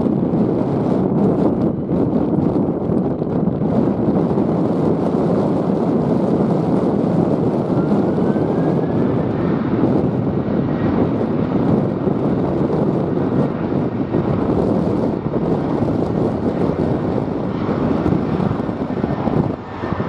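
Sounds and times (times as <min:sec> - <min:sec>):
distant jet engine whine: 0:00.0 - 0:20.0
wind buffeting microphone: 0:00.0 - 0:20.0.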